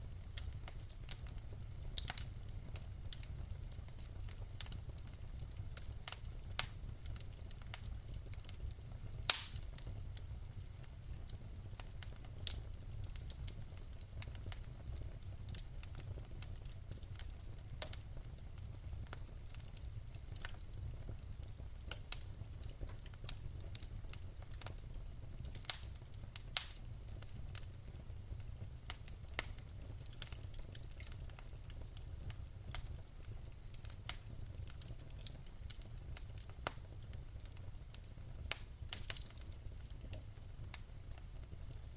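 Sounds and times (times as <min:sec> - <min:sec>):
burning logs crackling and popping: 0:00.0 - 0:41.9
fire flames rumbling: 0:00.0 - 0:41.9.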